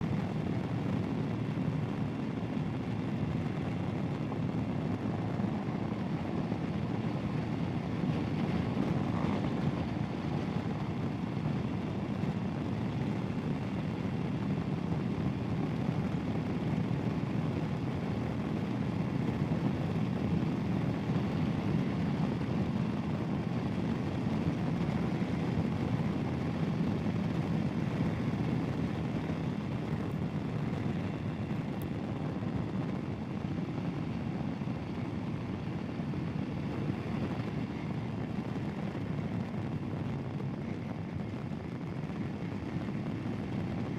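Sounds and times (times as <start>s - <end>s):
motorcycle engine running: 0.0s - 42.6s
wind noise: 0.0s - 43.9s.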